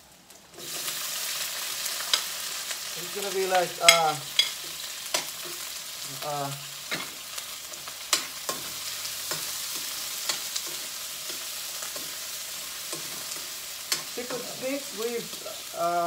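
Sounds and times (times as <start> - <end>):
seafood sizzling in a pan: 0.0 - 16.0.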